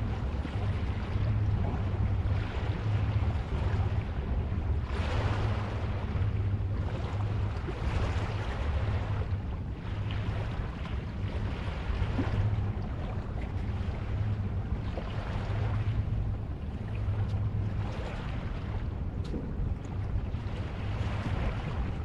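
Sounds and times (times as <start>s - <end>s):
low rumble of waves: 0.0s - 22.0s
surf washing: 0.0s - 22.0s.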